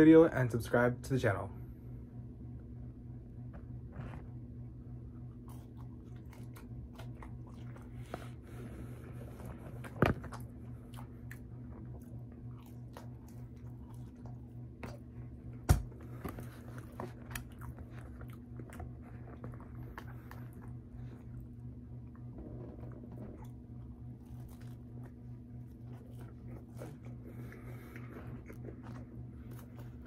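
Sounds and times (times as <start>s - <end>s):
steady low hum: 0.0s - 30.0s
person chewing fries: 5.2s - 30.0s.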